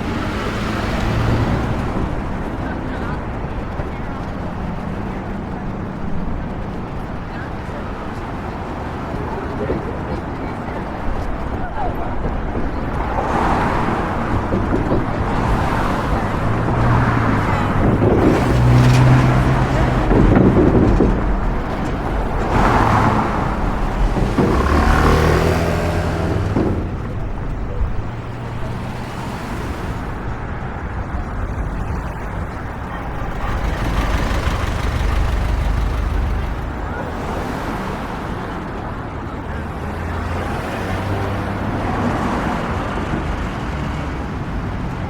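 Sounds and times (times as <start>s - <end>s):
city street traffic: 0.0s - 45.0s
nearby vehicle engine hum: 0.0s - 45.0s.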